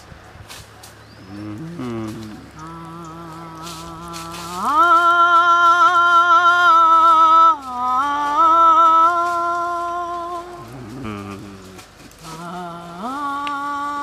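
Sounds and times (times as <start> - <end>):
woman singing long notes: 1.3 - 14.0.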